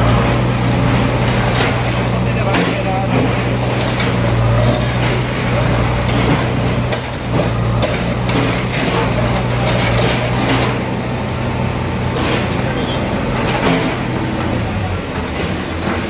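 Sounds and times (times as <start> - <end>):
diesel engines under load: 0.0 - 16.0
masonry crashing: 0.0 - 16.0.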